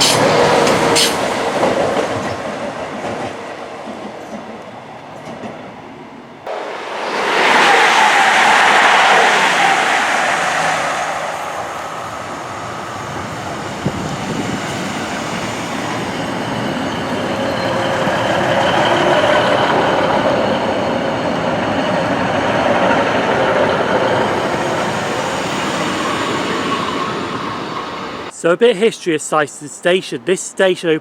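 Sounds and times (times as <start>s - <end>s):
diesel train rumbling on rails: 0.0s - 28.4s.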